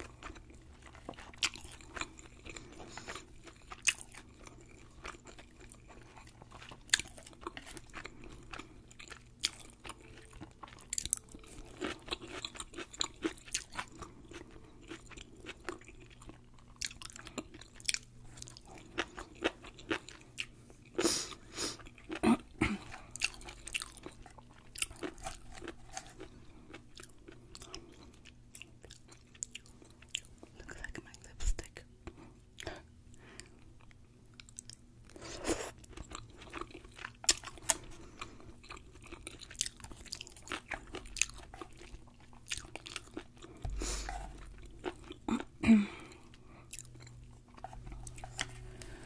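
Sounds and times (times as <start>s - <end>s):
crisp chewing crunches: 0.0s - 31.3s, 34.3s - 49.0s.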